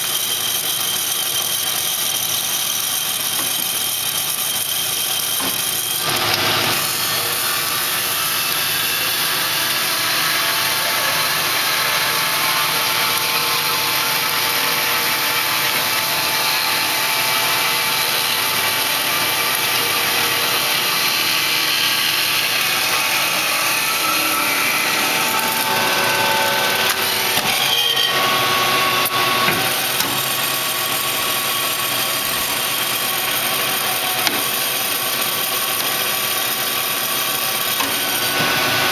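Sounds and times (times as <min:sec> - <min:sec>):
bandsaw blade sawing wood: 0:00.0 - 0:38.9
machine hum: 0:02.8 - 0:35.8.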